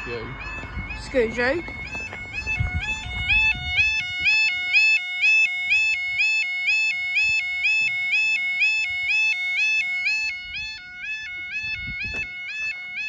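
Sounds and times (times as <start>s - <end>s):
level crossing alarm two-tone: 0.0s - 13.0s.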